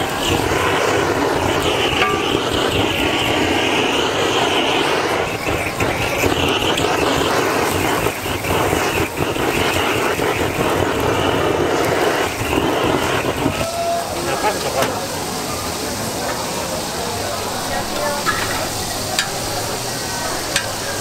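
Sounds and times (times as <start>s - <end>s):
blowtorch flame rushing: 0.0s - 21.0s
sauce sizzling on griddle: 0.0s - 21.0s.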